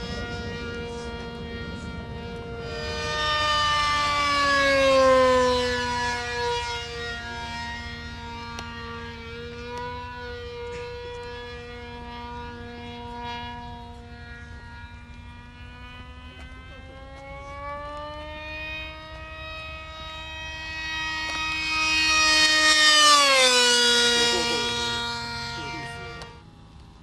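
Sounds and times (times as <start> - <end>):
model jet engine whining: 0.0 - 27.0.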